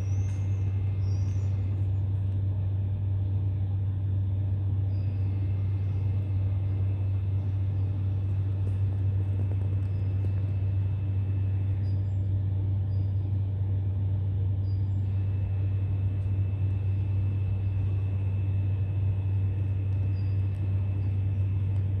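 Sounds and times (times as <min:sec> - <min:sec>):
faint high whine: 0:00.0 - 0:22.0
steady low hum: 0:00.0 - 0:22.0.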